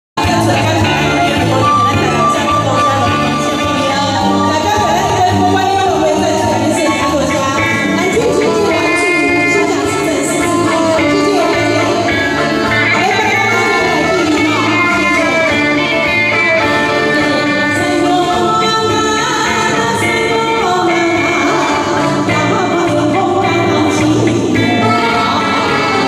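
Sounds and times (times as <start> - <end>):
electric bass: 0.2 - 26.0
keyboard: 0.2 - 26.0
woman singing into microphone: 0.2 - 26.0.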